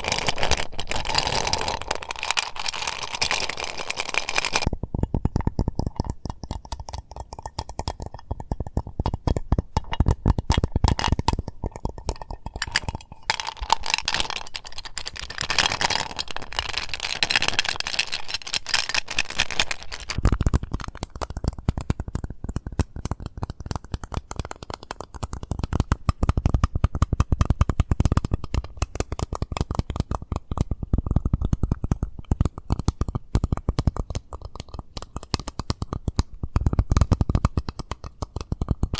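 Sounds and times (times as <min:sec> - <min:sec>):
rapid tapping on a mint case: 0:00.0 - 0:38.9.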